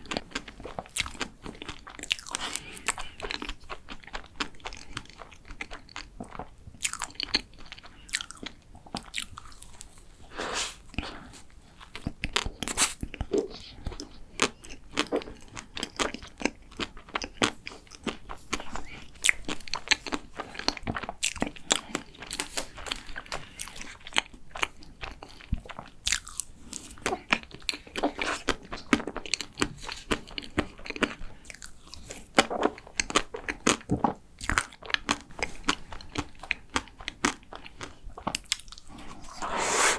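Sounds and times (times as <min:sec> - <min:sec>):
wet chewing: 0:00.0 - 0:10.0, 0:10.9 - 0:39.9.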